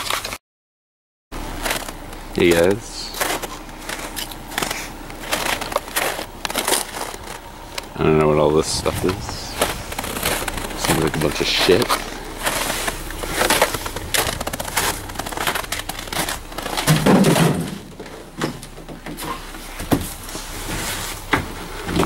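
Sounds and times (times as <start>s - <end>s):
junk clattering and rustling: 1.4s - 22.0s.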